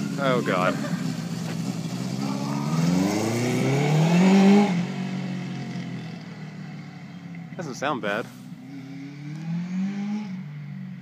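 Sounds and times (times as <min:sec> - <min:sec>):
motorcycle accelerating hard: 0:00.0 - 0:11.0.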